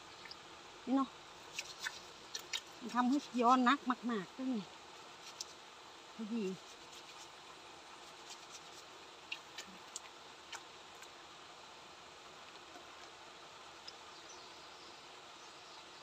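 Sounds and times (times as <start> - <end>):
steady faint hiss: 0.0 - 16.0.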